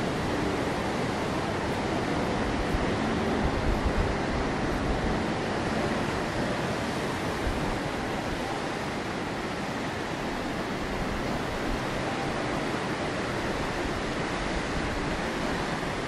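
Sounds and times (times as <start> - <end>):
surf breaking on rocky shore: 0.0 - 16.0.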